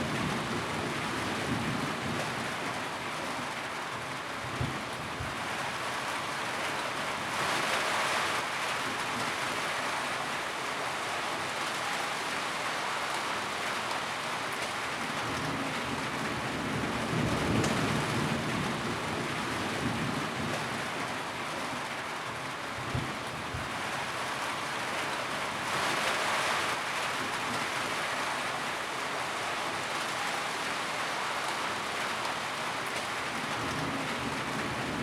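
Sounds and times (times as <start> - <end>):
rain on a tin roof: 0.0 - 35.0.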